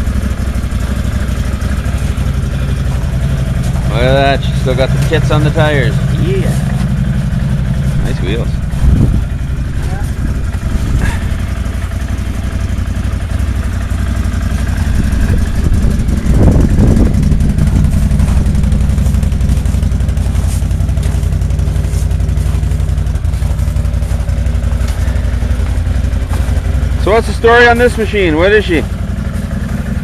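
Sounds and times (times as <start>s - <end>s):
atv engine idling: 0.0s - 30.0s.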